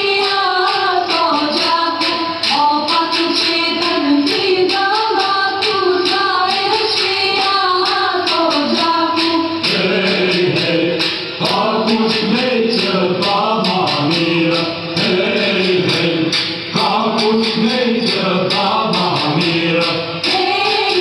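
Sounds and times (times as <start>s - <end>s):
group singing folk song: 0.0s - 21.0s
hand percussion strokes: 0.0s - 21.0s.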